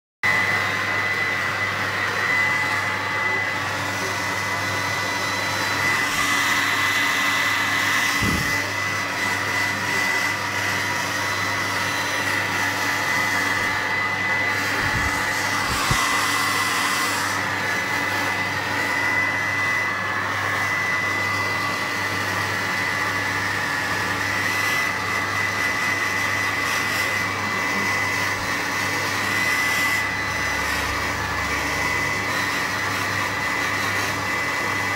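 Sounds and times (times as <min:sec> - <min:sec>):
hairdryer blowing: 0:00.2 - 0:34.9.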